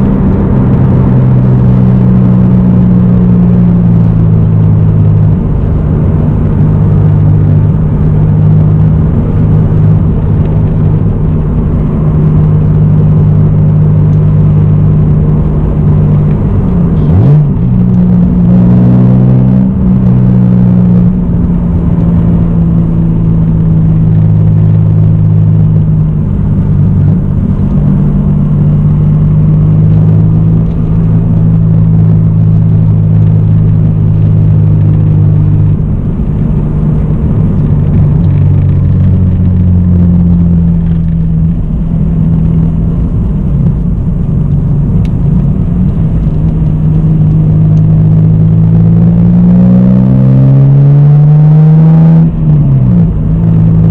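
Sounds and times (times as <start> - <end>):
car engine cruising: 0.0 - 53.9.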